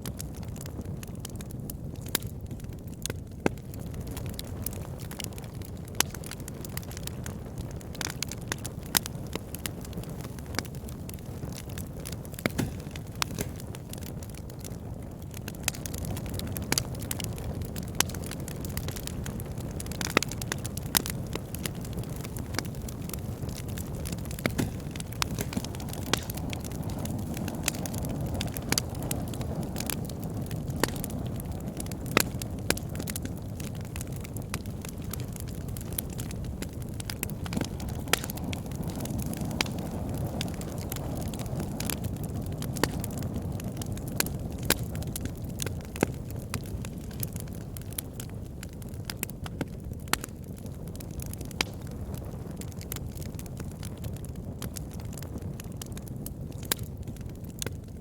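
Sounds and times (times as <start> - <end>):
burning wood crackling and popping: 0.0 - 58.0
wood fire burning: 0.0 - 58.0.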